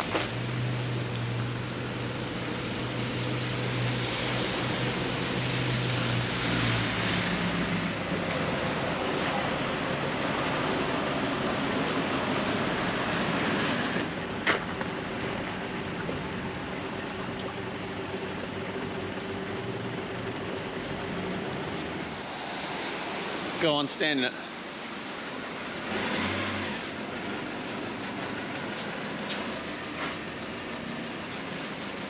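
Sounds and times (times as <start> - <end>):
passing road traffic: 0.0 - 32.0
wind: 0.0 - 32.0.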